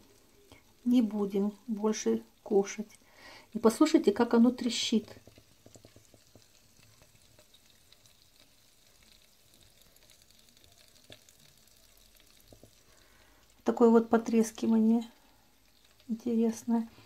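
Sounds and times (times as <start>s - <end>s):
butter crackling in a pot: 0.0s - 17.0s.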